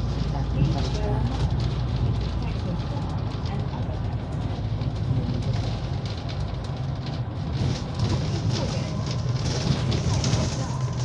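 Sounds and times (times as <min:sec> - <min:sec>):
light rattles and clicks: 0:00.0 - 0:11.0
vehicle rumble from inside: 0:00.0 - 0:11.0.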